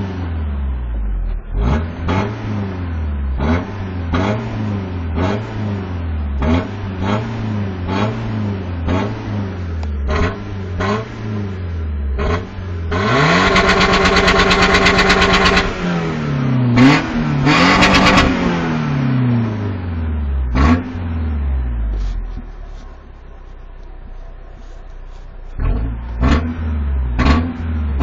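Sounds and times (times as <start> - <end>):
pickup truck engine revving: 0.0 - 23.0, 24.1 - 28.0.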